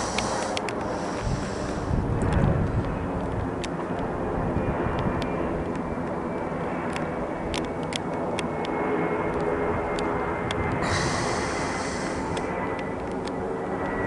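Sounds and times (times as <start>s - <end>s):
jet plane passing overhead: 0.0s - 14.0s.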